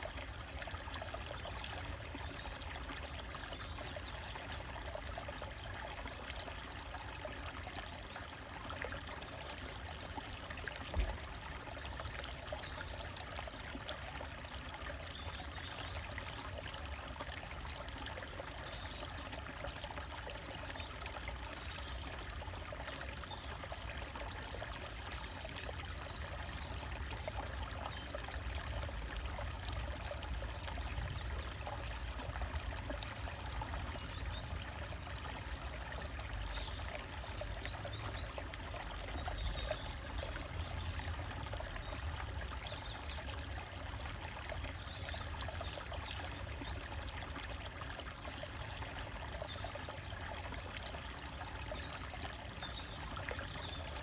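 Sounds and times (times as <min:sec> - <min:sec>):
stream trickling over rocks: 0:00.0 - 0:54.0.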